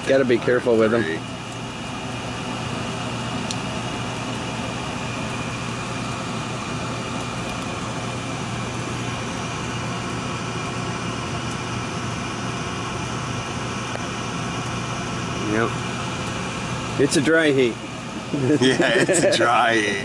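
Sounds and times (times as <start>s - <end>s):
gas furnace humming: 0.0s - 20.0s.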